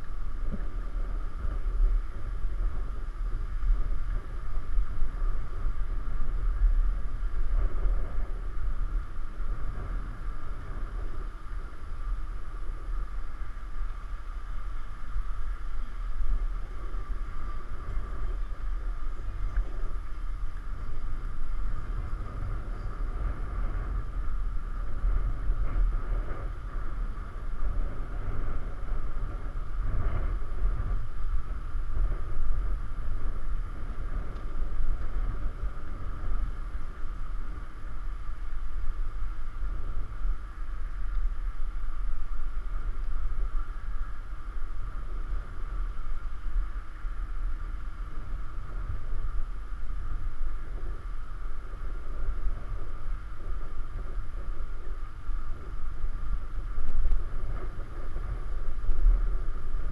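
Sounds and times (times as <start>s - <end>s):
steady mid-pitched hum: 0.0s - 59.9s
wind buffeting microphone: 0.0s - 59.9s.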